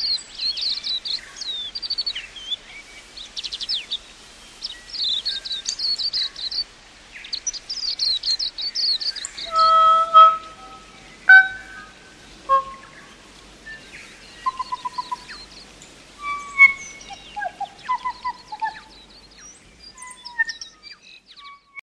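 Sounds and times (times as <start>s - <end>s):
songbirds singing: 0.0s - 21.8s.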